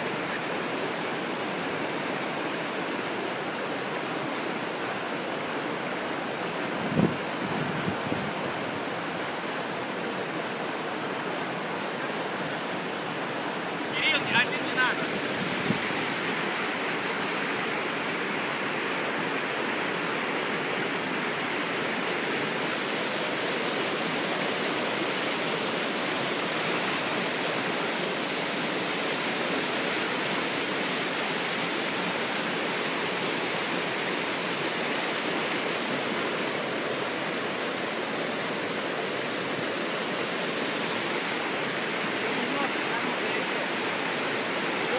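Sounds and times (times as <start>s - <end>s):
river rapids rushing: 0.0s - 44.9s.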